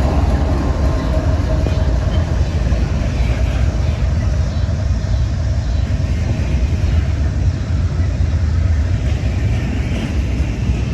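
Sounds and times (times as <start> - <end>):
freight train rumbling past: 0.0 - 10.9.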